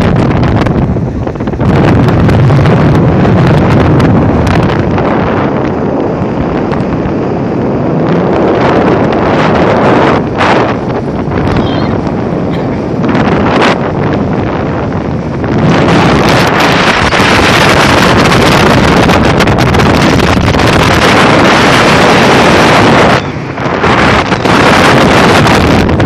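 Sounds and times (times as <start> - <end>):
outboard motor: 0.0 - 26.0
rushing water: 0.0 - 26.0
wind buffeting microphone: 0.0 - 26.0.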